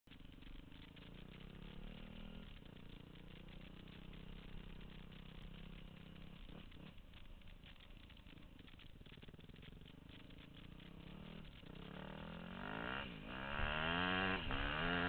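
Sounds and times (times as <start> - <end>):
motorcycle engine running: 0.0 - 15.0
rattly hiss: 0.1 - 15.0.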